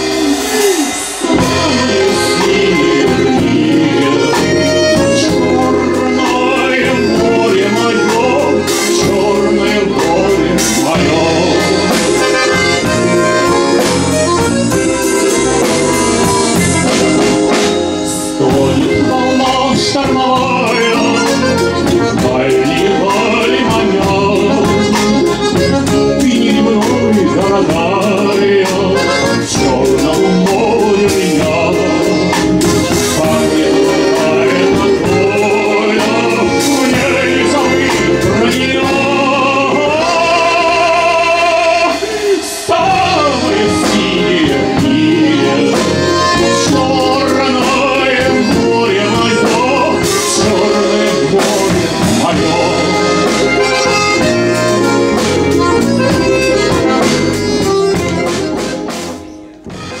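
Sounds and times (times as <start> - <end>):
man singing: 0.0 - 59.0
acoustic bass guitar: 0.0 - 60.0
small live band: 0.0 - 60.0.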